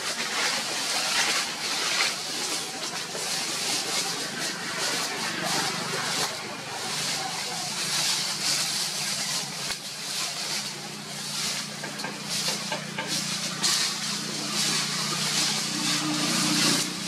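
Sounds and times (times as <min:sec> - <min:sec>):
pulsing high hiss: 0:00.0 - 0:17.0.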